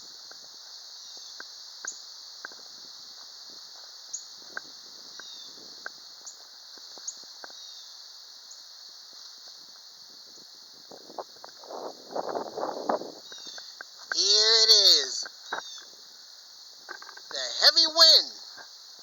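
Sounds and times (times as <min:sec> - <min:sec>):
high insect chorus: 0:00.0 - 0:19.0.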